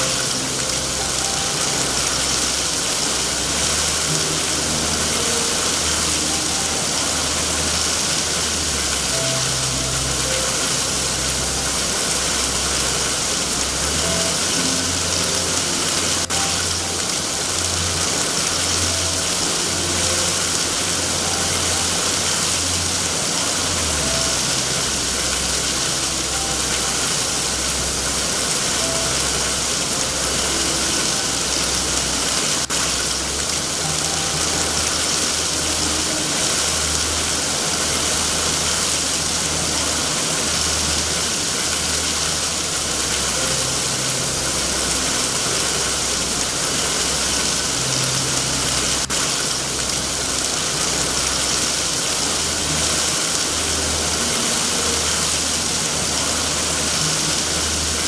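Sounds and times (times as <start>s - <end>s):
dense rain hiss: 0.0s - 58.0s.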